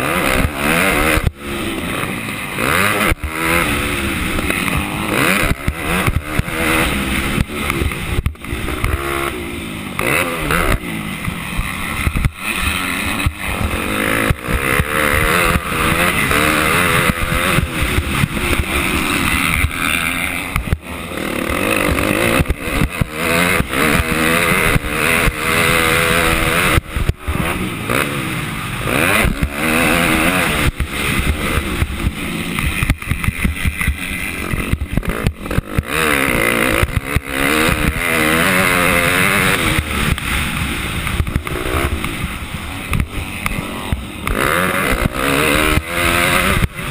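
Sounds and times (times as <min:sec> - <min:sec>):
knocks and buffets: 0:00.0 - 0:46.9
motocross bike engine revving: 0:00.0 - 0:46.9.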